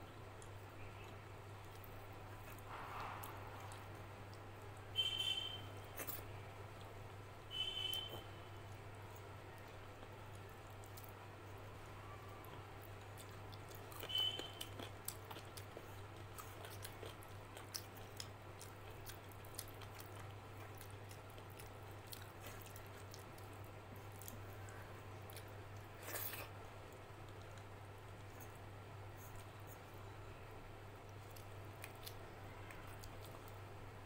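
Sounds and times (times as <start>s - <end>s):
chewing: 0.3s - 4.8s, 7.9s - 28.6s, 31.0s - 33.7s.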